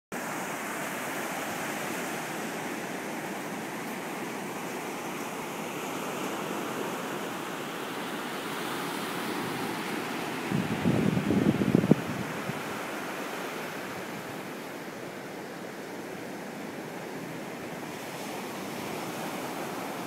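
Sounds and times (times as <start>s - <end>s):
ocean surf breaking on beach: 0.2s - 20.0s.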